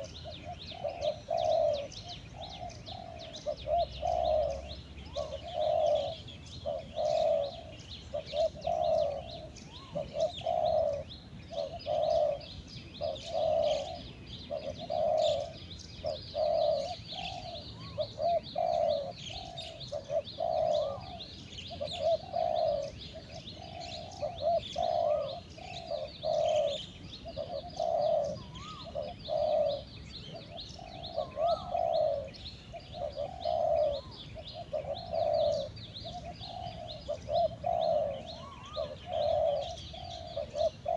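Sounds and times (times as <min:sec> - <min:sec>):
doves cooing: 0:00.0 - 0:40.9
small birds chirping: 0:00.0 - 0:40.9.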